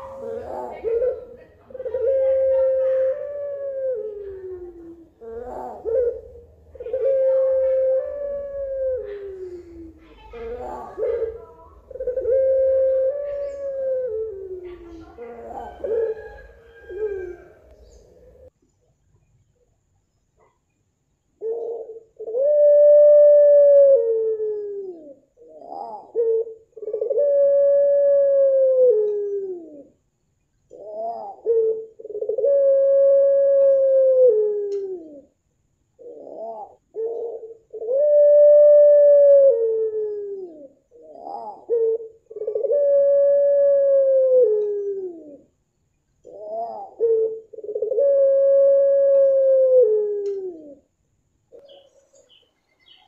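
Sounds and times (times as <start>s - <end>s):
dove cooing: 0.0s - 18.5s, 21.4s - 30.0s, 30.7s - 45.6s, 46.2s - 50.9s.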